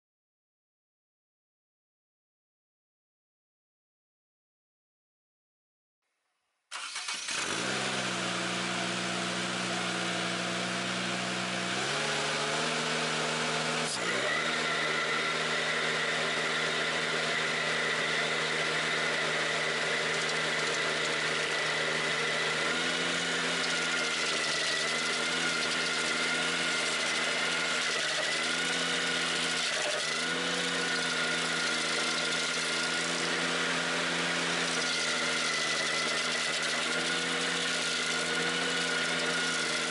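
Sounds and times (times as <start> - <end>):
stump grinder whine: 6.7 - 39.9.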